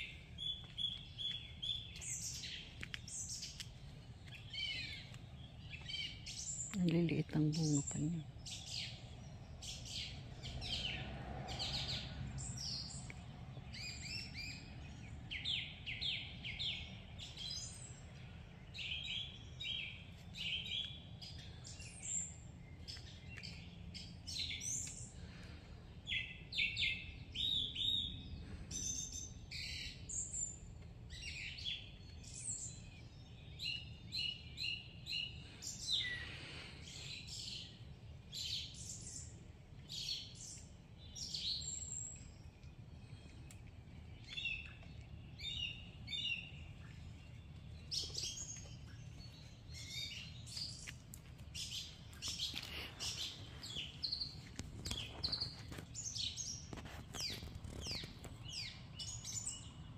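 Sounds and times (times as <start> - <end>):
birds singing and chirping: 0.0 - 59.9.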